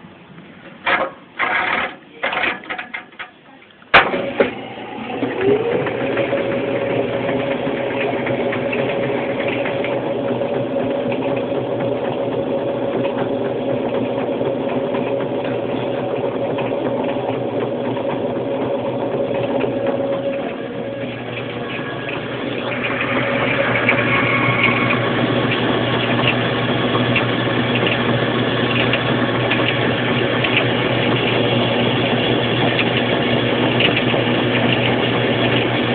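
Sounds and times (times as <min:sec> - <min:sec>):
washing machine motor spinning: 0:04.2 - 0:35.9.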